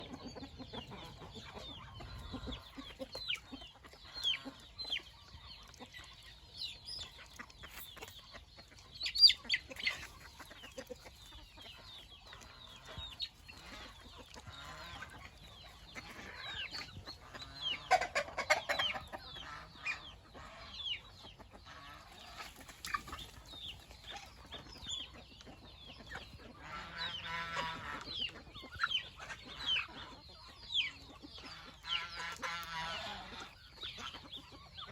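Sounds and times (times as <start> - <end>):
chickens clucking and calling: 0.0 - 34.9.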